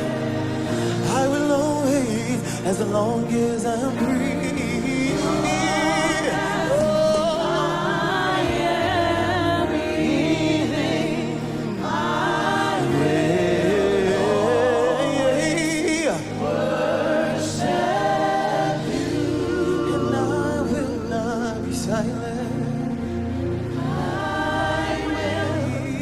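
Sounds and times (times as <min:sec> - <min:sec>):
choir singing sustained notes: 0:00.0 - 0:26.0
musical accompaniment: 0:00.0 - 0:26.0.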